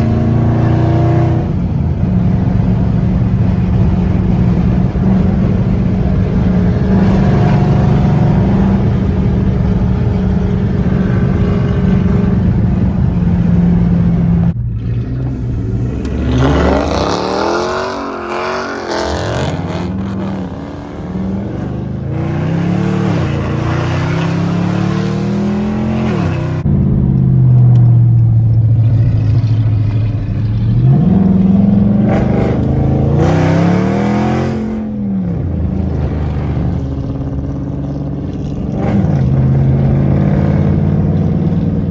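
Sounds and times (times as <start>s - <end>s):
loud car engine revving: 0.0s - 41.9s.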